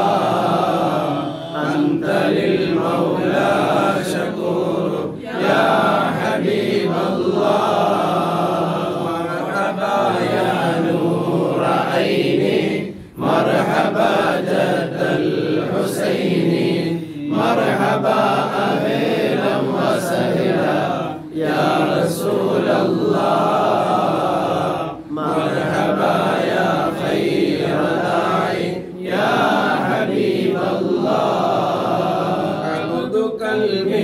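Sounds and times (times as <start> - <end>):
man leading verses: 0.0 - 34.0
men chanting praise song: 0.0 - 34.0.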